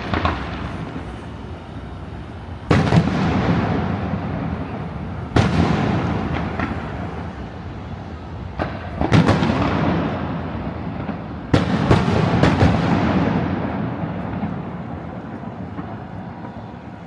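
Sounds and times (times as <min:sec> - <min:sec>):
firework bangs with rumble: 0:00.0 - 0:01.4, 0:02.6 - 0:16.6.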